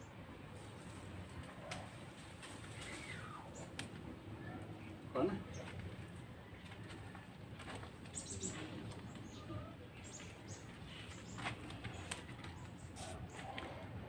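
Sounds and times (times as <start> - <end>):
yard ambience: 0.0 - 14.0
rustles: 0.4 - 14.0
small birds chirping: 2.7 - 14.0.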